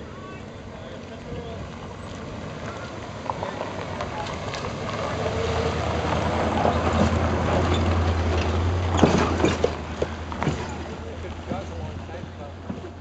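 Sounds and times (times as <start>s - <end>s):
truck engine hum: 0.0s - 13.0s
tyres on gravel: 0.0s - 13.0s
trailer clicks and rattles: 0.9s - 13.0s.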